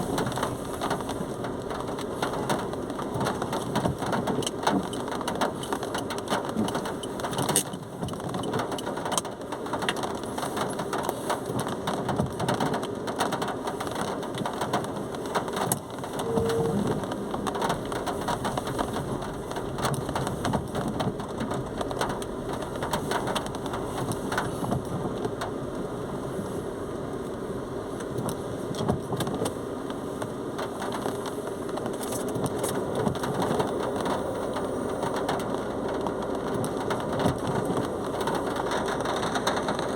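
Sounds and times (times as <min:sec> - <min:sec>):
raindrops spattering: 0:00.0 - 0:30.0, 0:30.6 - 0:39.9
heavy rain falling: 0:00.0 - 0:39.9.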